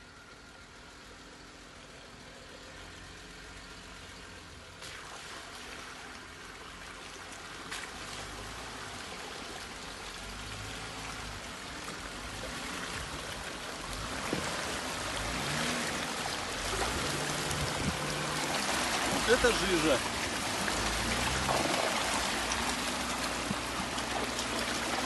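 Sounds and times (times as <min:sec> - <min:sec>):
car engine running low: 0:00.0 - 0:25.0
water splashing around wheels: 0:00.6 - 0:25.0.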